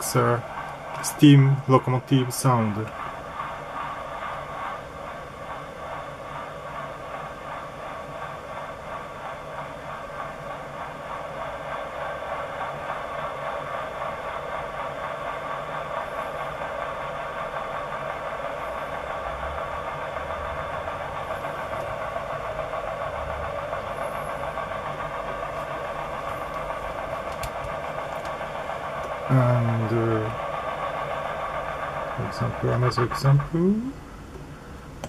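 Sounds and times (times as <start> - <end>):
synthesizer chuffing noise hiss: 1.1 - 34.1.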